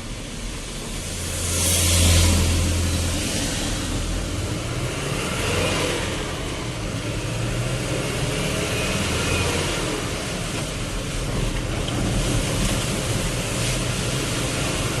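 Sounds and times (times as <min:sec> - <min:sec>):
road noise: 0:00.0 - 0:15.0
heavy rain: 0:00.4 - 0:15.0.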